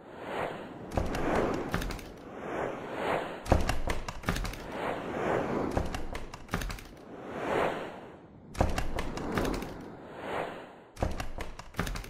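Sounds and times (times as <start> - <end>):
whooshes: 0.0 - 11.5.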